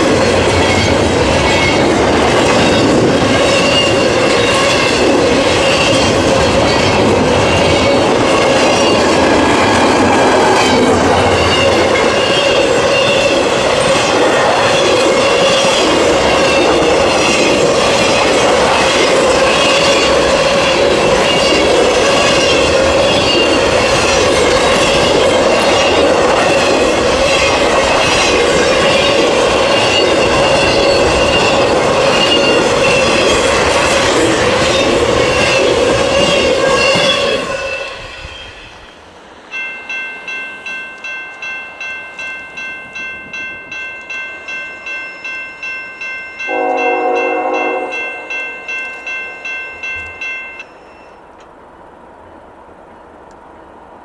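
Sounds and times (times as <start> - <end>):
ringing tones from wheels: 0.0 - 38.6, 39.6 - 51.3
steel wheels rushing on rail: 0.0 - 54.0.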